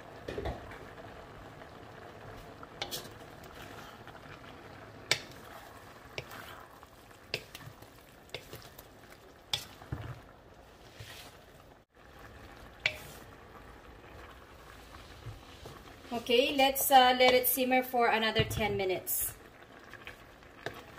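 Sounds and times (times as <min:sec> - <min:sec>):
sauce sizzling: 0:00.0 - 0:20.9.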